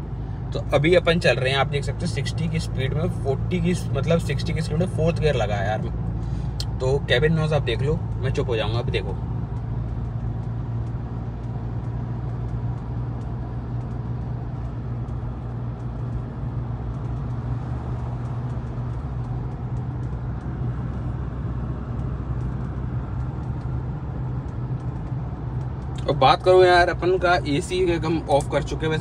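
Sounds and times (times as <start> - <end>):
diesel engine drone: 0.0 - 29.0
tyre and road noise: 0.0 - 29.0.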